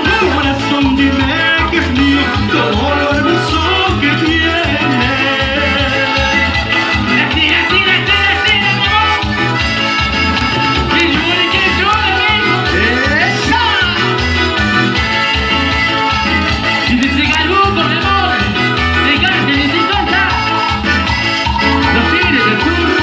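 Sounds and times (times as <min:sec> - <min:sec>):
band playing latin dance music: 0:00.0 - 0:23.0.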